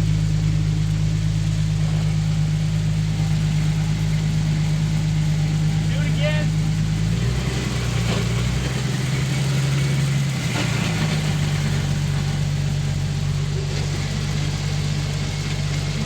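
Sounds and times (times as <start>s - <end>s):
engine and driveline humming: 0.0s - 16.0s.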